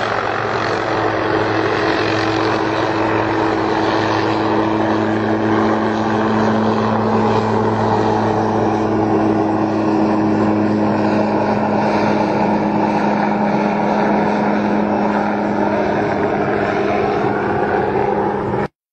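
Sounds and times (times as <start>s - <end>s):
helicopter hovering: 0.0s - 18.7s.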